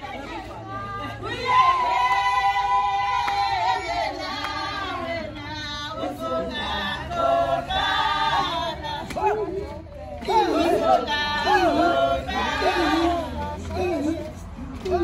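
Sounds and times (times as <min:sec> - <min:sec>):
women singing in chorus: 0:00.0 - 0:15.0.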